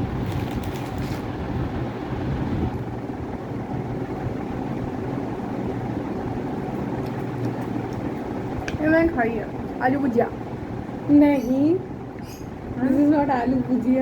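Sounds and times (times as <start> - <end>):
even background noise: 0.0 - 14.0
low mechanical hum: 0.0 - 14.0.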